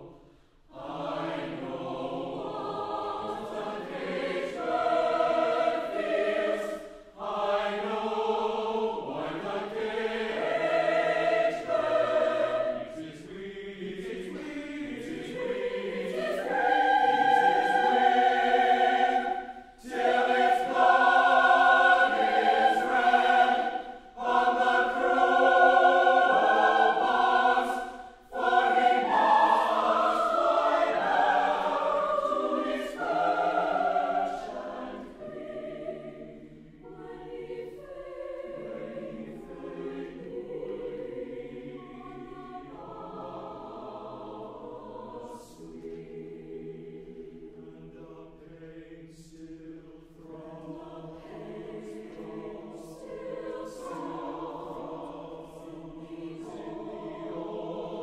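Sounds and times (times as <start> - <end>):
choir singing sustained chords: 0.0 - 58.0.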